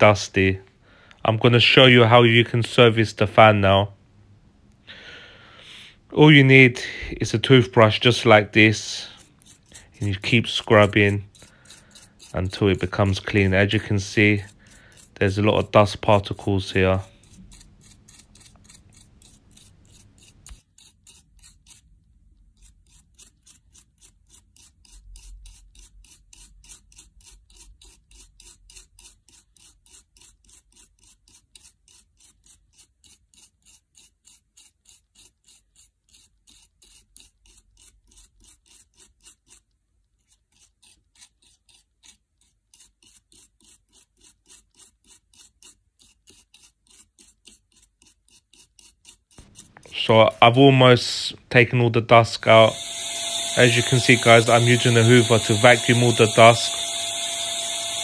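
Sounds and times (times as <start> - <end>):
toothbrush scrubbing fan blades: 6.2 - 58.0.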